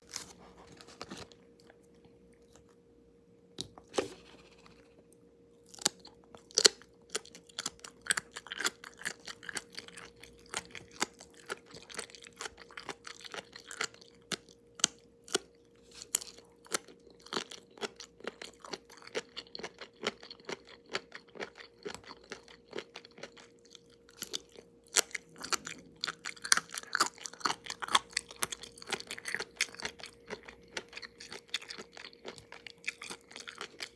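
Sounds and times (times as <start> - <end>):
chewing crunchy food: 0.0 - 2.8, 3.5 - 33.9
faint steady hum: 0.0 - 33.9.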